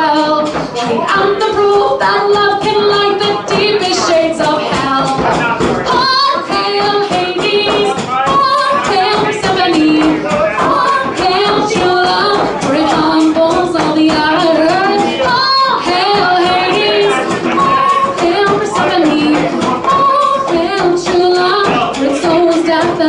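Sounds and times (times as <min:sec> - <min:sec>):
woman singing: 0:00.0 - 0:23.0.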